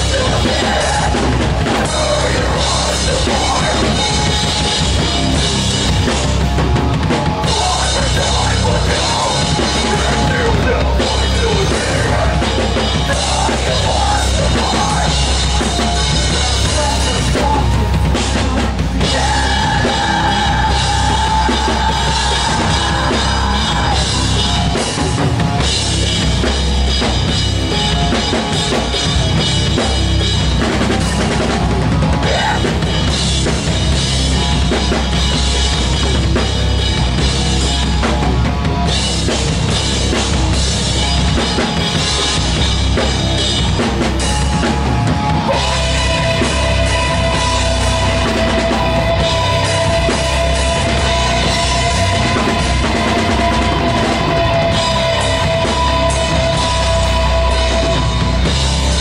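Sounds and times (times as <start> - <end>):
instrumental rock band: 0.0 - 59.0.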